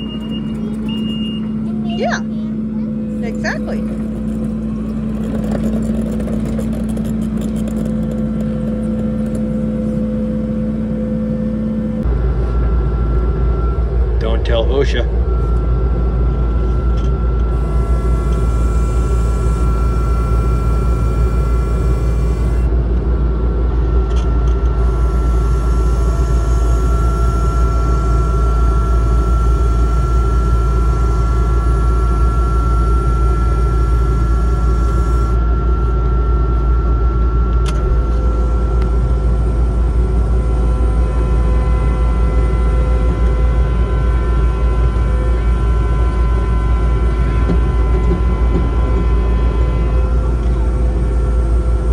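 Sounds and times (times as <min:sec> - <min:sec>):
diesel engine running: 0:00.0 - 0:51.9
steady high whine: 0:00.0 - 0:51.9.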